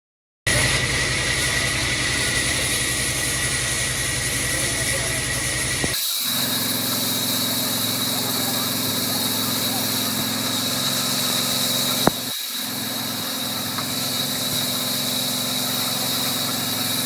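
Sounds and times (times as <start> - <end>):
sawmill machinery whining: 0.5 - 17.0.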